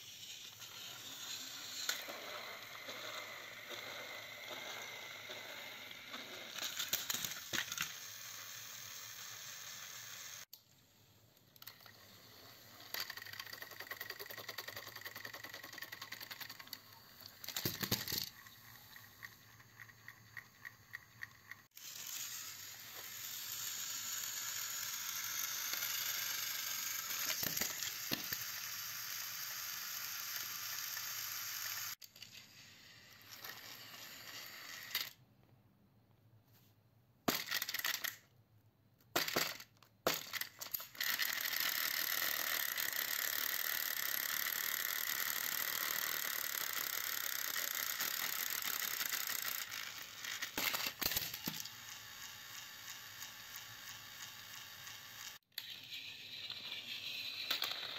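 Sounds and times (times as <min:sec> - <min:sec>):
toy train rattling clatter: 0:00.0 - 0:10.5, 0:11.5 - 0:35.2, 0:37.3 - 0:38.3, 0:39.1 - 0:57.9
toy train motor whirring: 0:00.0 - 0:10.6, 0:11.5 - 0:35.2, 0:37.3 - 0:38.3, 0:39.2 - 0:57.9.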